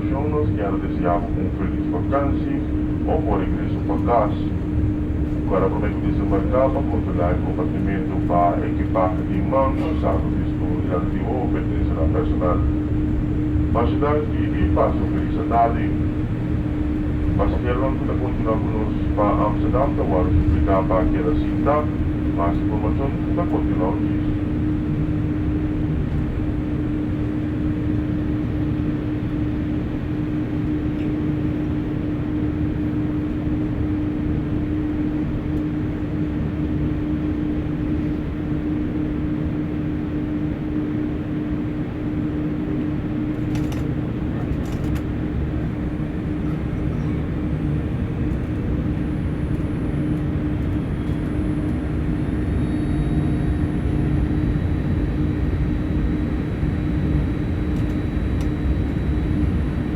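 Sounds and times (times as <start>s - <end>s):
aircraft cabin drone: 0.0s - 59.9s.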